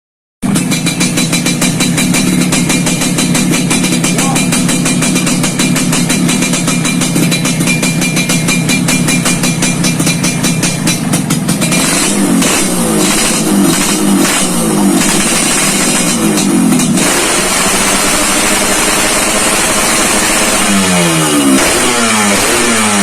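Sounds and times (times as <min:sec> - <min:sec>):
two-stroke motorcycle engine idling: 0:00.4 - 0:23.0.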